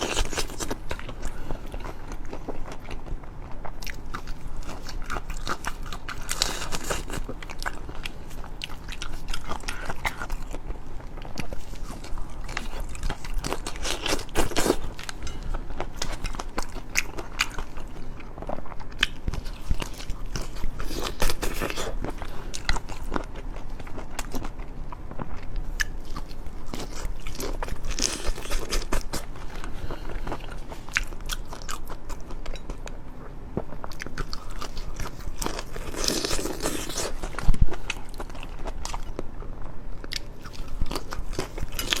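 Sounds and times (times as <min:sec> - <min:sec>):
chewing crunchy food: 0:00.0 - 0:42.0.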